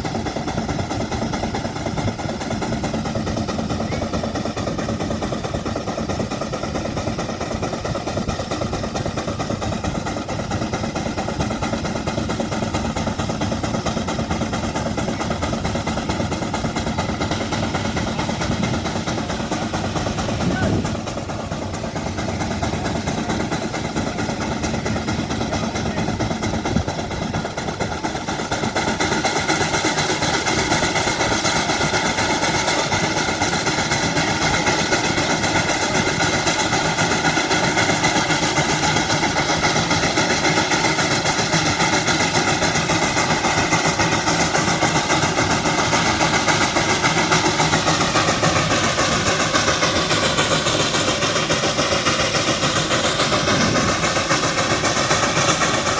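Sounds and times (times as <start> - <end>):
steam traction engine working: 0.0 - 55.9.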